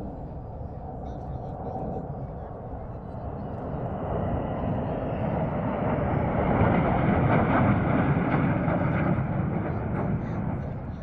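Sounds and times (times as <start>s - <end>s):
military aircraft flying over: 0.0s - 11.0s.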